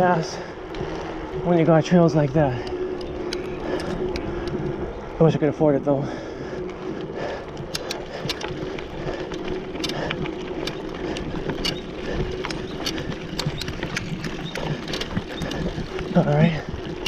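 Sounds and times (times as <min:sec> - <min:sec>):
bike clicks and rattles: 0:00.0 - 0:05.2, 0:06.2 - 0:17.0
bike tyres rolling: 0:00.0 - 0:17.0.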